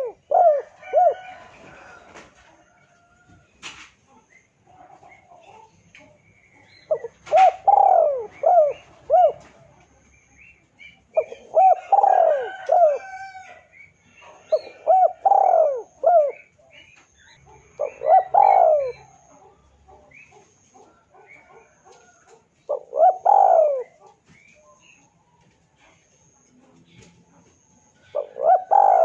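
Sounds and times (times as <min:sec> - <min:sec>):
dove cooing: 0:00.0 - 0:03.4, 0:04.7 - 0:10.1, 0:10.8 - 0:25.0, 0:27.9 - 0:29.0
small birds chirping: 0:00.0 - 0:29.0.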